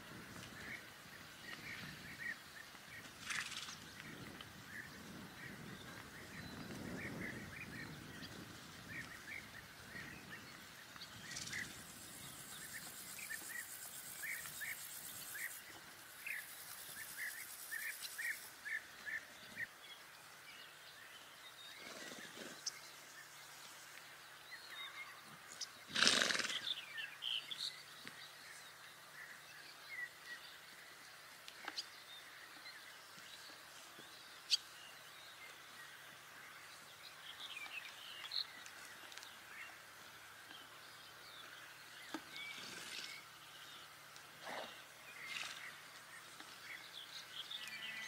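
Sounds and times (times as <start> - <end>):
faint outdoor ambience: 0.0 - 48.0
small birds chirping: 0.3 - 48.0.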